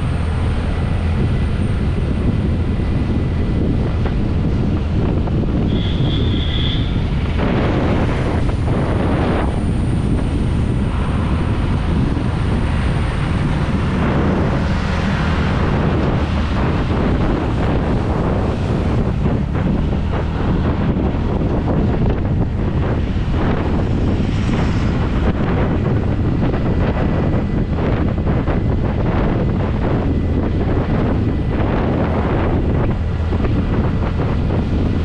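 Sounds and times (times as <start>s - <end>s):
road noise: 0.0s - 35.0s
wind buffeting microphone: 0.0s - 35.0s.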